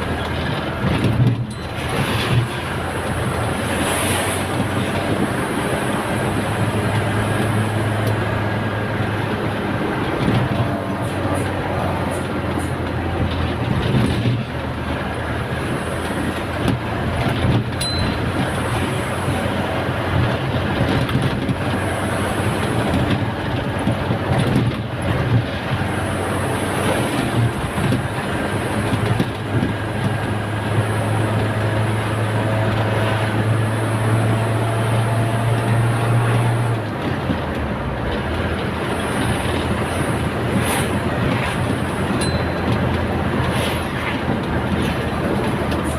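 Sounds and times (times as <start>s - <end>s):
road and wind noise: 0.0s - 45.9s
truck engine droning: 0.0s - 45.9s.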